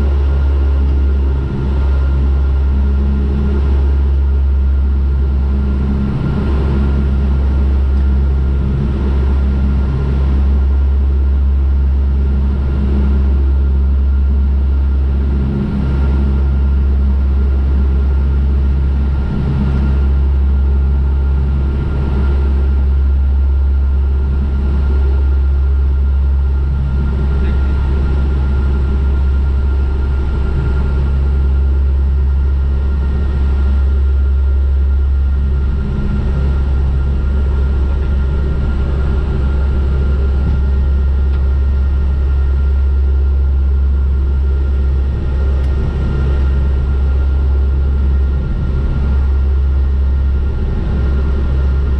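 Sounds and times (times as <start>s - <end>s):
propeller plane engines droning: 0.0s - 51.9s
thin steady whine: 0.0s - 51.9s.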